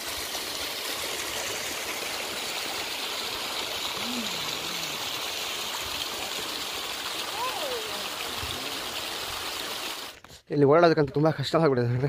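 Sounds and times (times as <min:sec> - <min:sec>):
stream water rushing over rocks: 0:00.0 - 0:10.2.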